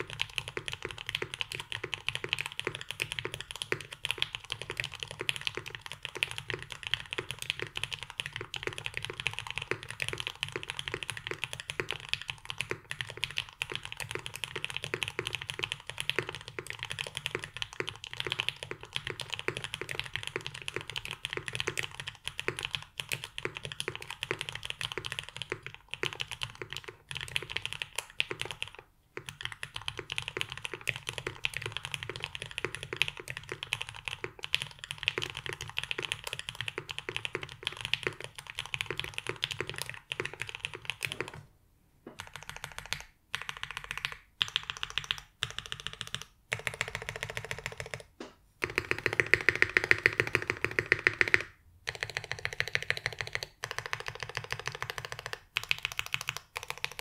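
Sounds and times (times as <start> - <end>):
fast mechanical keyboard typing: 0.0 - 41.5, 42.2 - 57.0.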